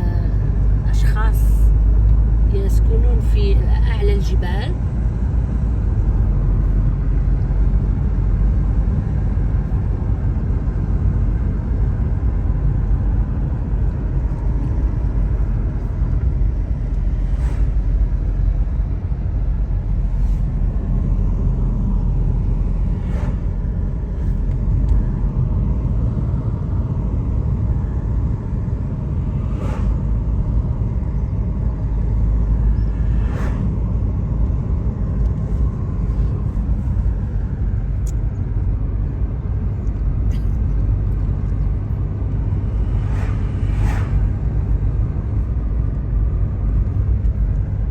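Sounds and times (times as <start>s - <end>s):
car driving on road: 0.0s - 47.9s.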